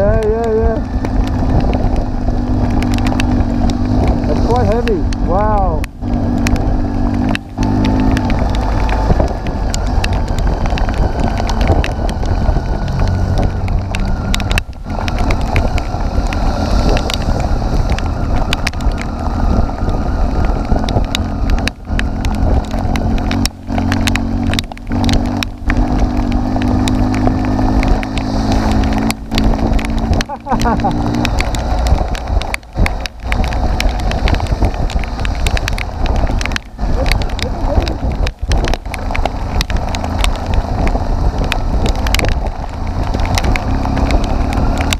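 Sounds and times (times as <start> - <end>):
heavy rain and hail: 0.0 - 44.9.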